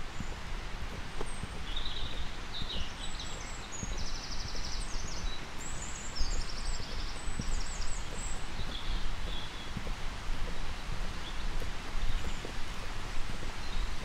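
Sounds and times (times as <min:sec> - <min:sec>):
footsteps on road: 0:00.0 - 0:14.0
songbirds singing: 0:00.0 - 0:14.0.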